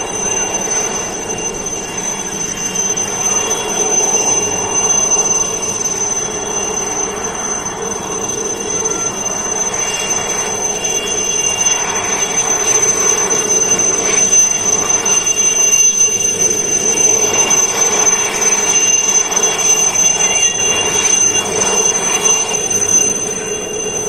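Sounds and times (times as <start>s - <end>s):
helicopter rushing noise: 0.0s - 24.0s
helicopter turbine whine: 0.0s - 24.0s.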